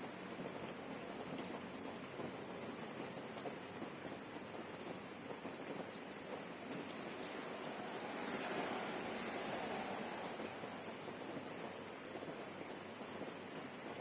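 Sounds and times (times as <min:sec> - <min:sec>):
steady rain pattering: 0:00.0 - 0:14.0.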